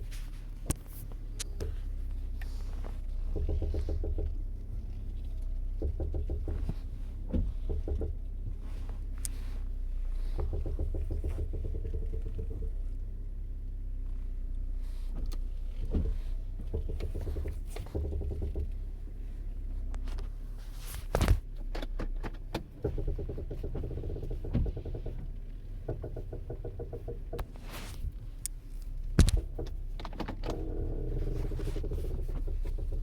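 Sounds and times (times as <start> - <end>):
car suspension clunking: 0.0 - 33.0.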